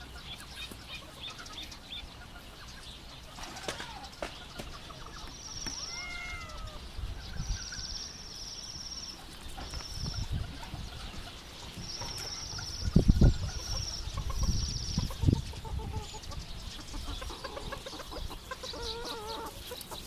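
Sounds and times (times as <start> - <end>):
chickens scratching: 0.0 - 6.8, 9.1 - 20.0.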